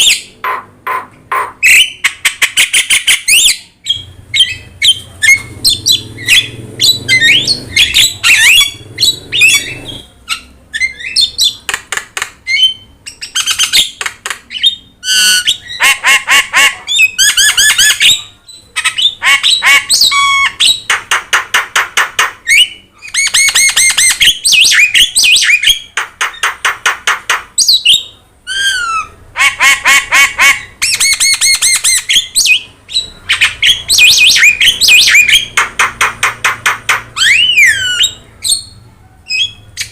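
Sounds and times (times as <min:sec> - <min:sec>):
myna squawking and chattering: 0:00.0 - 0:39.9.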